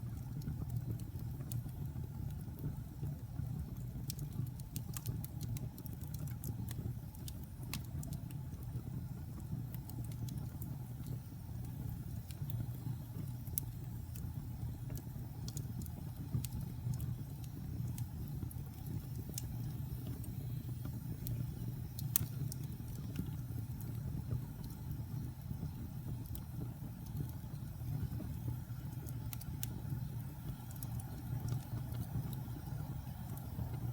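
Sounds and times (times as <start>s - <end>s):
fire crackling and popping: 0.0s - 33.9s
fire rumbling: 0.0s - 33.9s.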